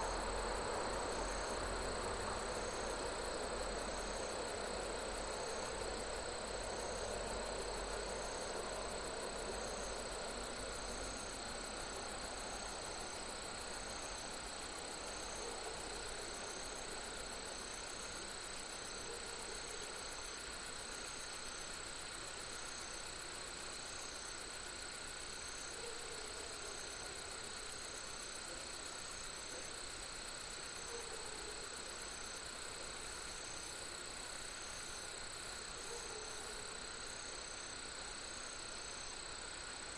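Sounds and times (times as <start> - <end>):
short repeated insect chirp: 7.4 - 39.9.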